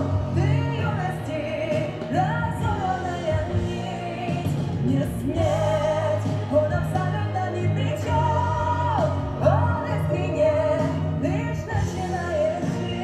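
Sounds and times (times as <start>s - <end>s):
instrumental backing: 0.0s - 13.0s
woman singing a slow ballad: 0.0s - 13.0s.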